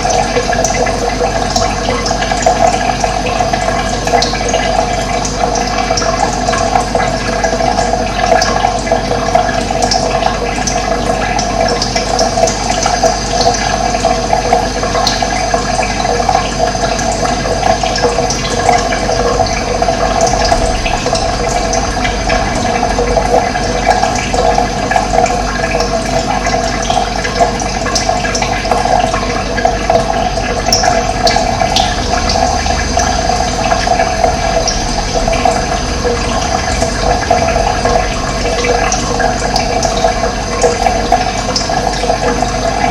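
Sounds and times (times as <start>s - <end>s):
running water flowing: 0.0s - 42.9s.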